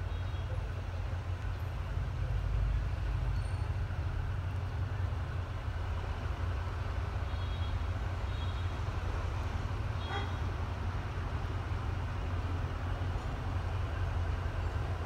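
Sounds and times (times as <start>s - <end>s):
distant locomotive engine rumble: 0.0s - 15.0s.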